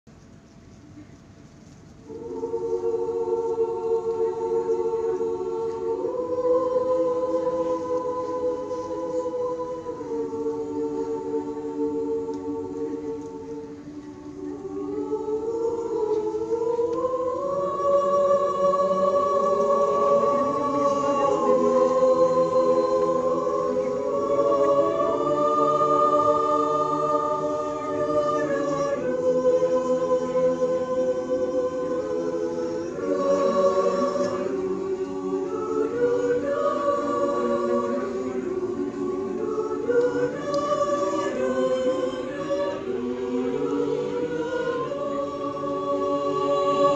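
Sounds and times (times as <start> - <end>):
mixed choir singing: 2.0 - 46.9.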